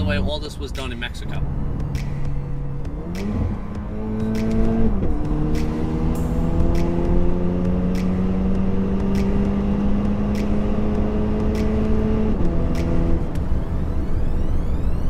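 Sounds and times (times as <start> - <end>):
car engine accelerating: 1.3 - 15.0.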